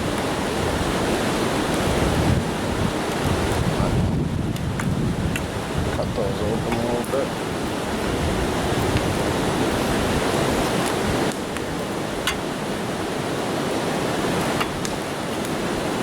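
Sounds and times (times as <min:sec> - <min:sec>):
river water rushing over rapids: 0:00.0 - 0:16.0.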